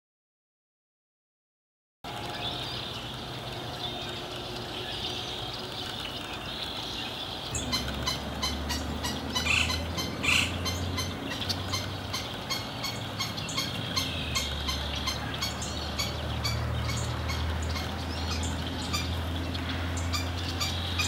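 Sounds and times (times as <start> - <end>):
birds calling: 2.1 - 21.0
low steady rumble: 2.1 - 21.0
steady outdoor hiss: 2.1 - 21.0.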